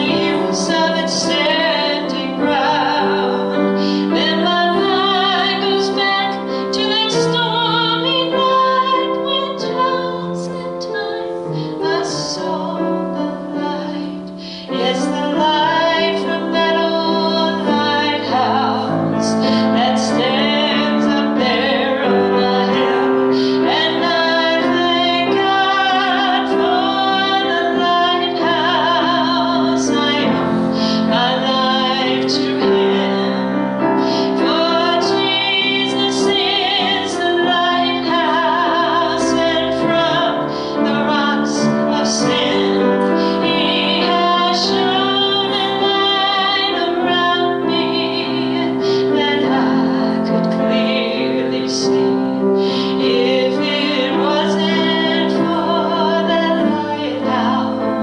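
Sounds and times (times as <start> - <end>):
piano: 0.0 - 58.0
woman singing with vibrato: 0.0 - 58.0.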